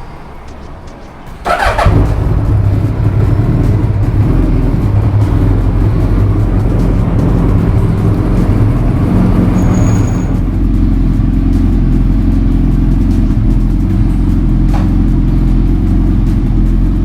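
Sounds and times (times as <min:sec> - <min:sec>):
motorcycle engine idling: 0:01.4 - 0:17.0.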